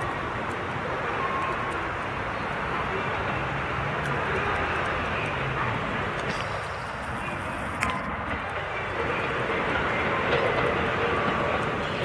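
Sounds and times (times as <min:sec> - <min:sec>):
electric train running on rails: 0:00.0 - 0:12.0.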